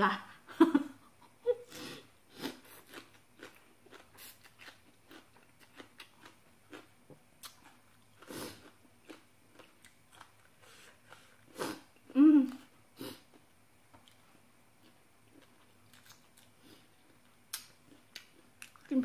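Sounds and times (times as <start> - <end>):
person chewing with mouth clicks: 2.4 - 18.9.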